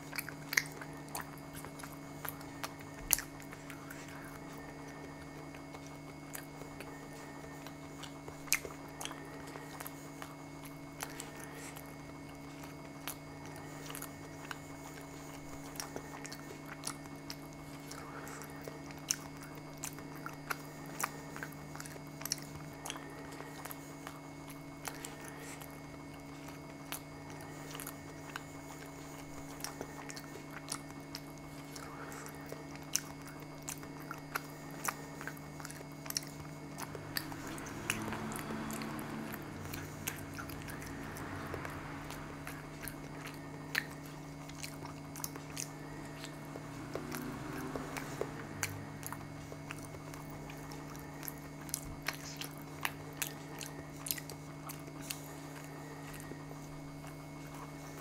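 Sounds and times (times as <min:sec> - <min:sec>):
person chewing food: 0:00.0 - 0:58.0
steady low hum: 0:00.0 - 0:58.0.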